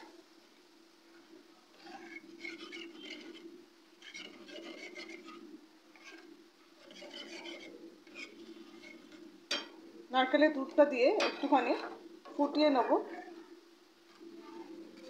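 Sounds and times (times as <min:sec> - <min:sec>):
spatula scraping a pan: 0:01.7 - 0:13.4, 0:14.1 - 0:15.0.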